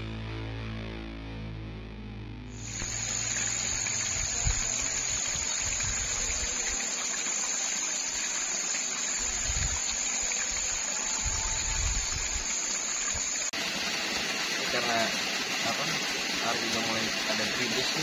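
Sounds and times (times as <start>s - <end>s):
insects droning: 2.5s - 18.0s
steady rushing hiss: 2.6s - 18.0s.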